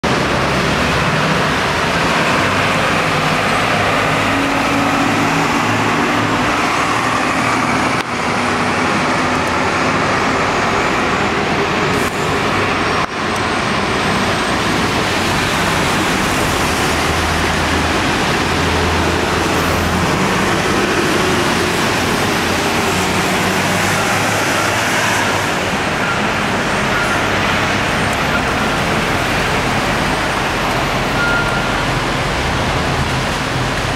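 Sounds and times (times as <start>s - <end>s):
traffic passing on wet roads: 0.0s - 33.9s.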